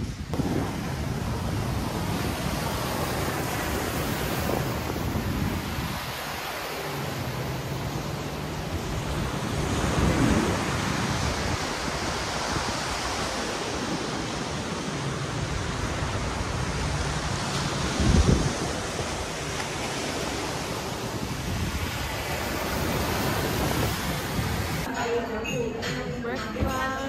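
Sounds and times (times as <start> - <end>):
surf washing onto beach: 0.0 - 24.9
wind on microphone: 0.0 - 24.9.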